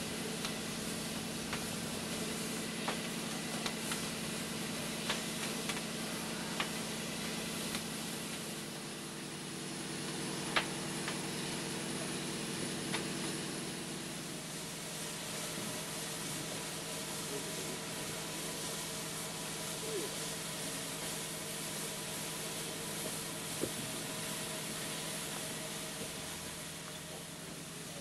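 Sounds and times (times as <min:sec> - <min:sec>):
steam boiler hum and hiss: 0:00.0 - 0:28.0.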